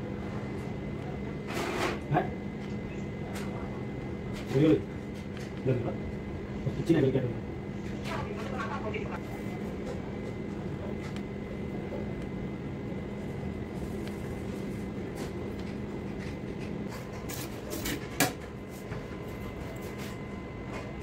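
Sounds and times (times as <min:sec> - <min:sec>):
kitchen machinery humming: 0:00.0 - 0:21.0.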